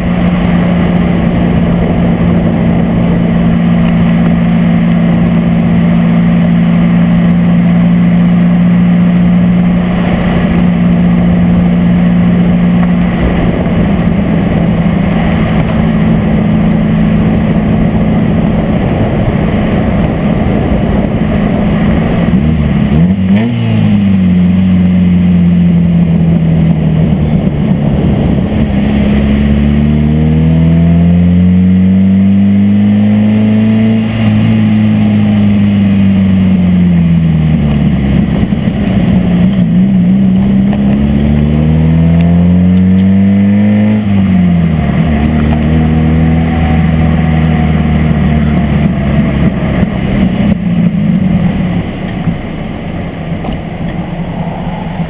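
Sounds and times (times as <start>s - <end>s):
car engine driving: 0.0s - 55.0s
rushing noise: 0.0s - 55.0s.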